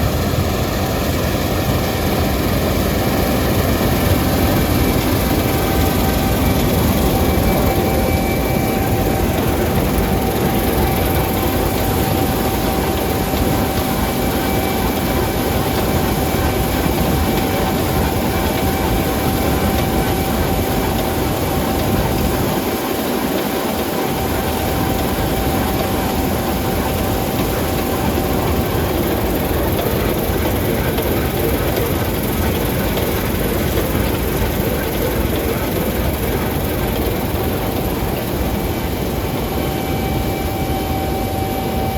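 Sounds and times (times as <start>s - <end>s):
combine harvester drone: 0.0s - 41.9s
thin steady whine: 0.0s - 41.9s.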